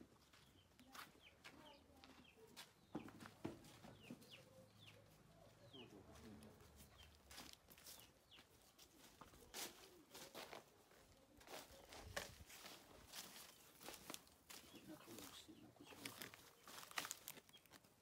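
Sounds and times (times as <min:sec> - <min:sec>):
footsteps: 0:00.2 - 0:17.9.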